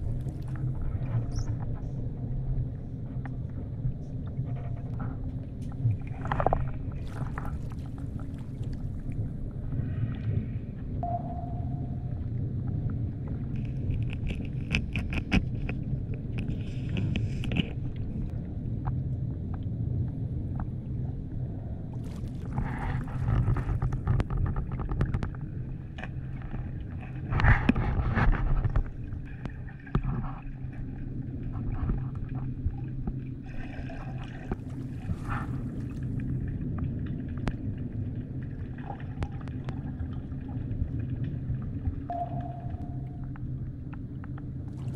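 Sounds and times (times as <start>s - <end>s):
underwater rumble of moving water: 0.0s - 44.9s.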